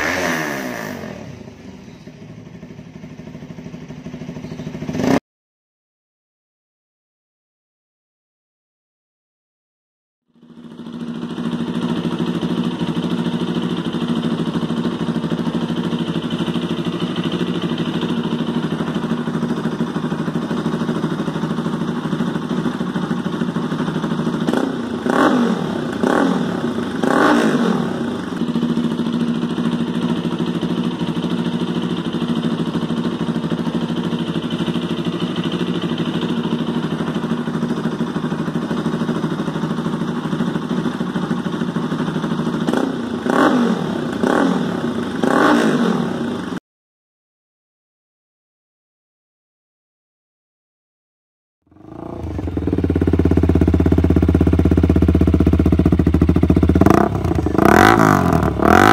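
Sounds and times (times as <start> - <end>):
motorcycle engine idling and revving: 0.0 - 5.2, 10.2 - 46.6, 51.7 - 58.9.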